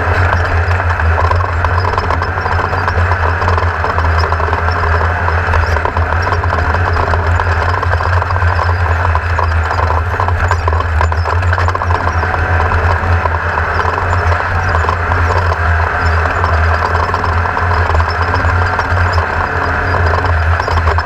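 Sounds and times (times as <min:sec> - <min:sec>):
buggy engine running steadily: 0:00.0 - 0:21.0
car rattling and knocking: 0:00.0 - 0:21.0.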